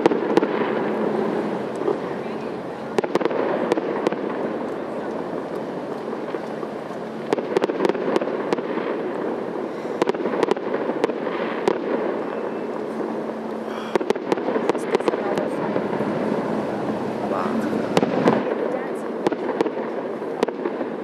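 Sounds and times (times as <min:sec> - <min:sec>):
fireworks bangs and cracks: 0:00.0 - 0:21.0
steady background noise: 0:00.0 - 0:21.0.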